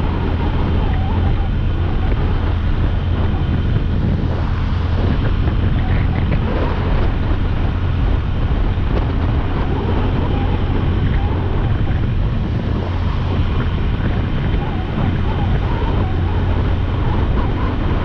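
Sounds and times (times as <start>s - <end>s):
motorcycle engine hum: 0.0s - 18.0s
wind rush on microphone: 0.0s - 18.0s.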